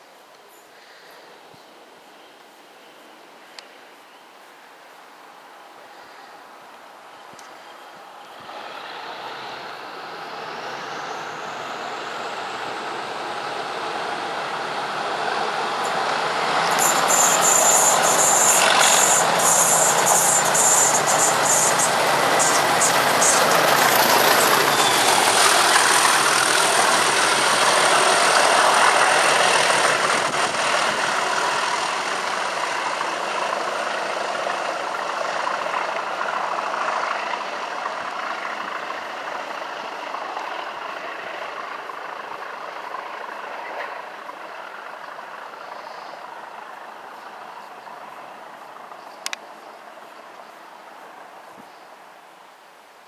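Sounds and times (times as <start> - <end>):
diesel locomotive engines working hard: 5.9 - 51.4.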